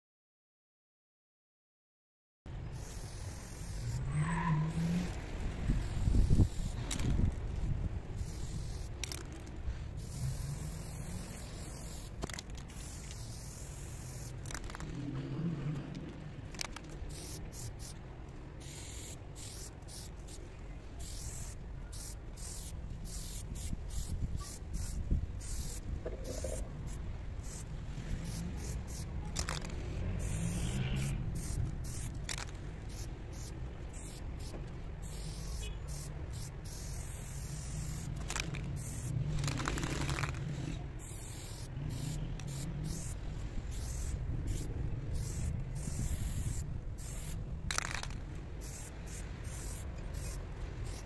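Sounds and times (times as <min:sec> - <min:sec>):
spray paint can hissing: 0:02.8 - 0:15.0, 0:16.5 - 0:18.0, 0:18.6 - 0:20.4, 0:21.0 - 0:51.0.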